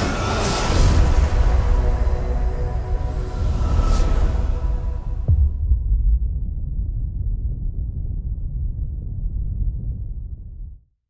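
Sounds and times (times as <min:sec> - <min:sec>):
deep bass rumble: 0:00.8 - 0:10.9.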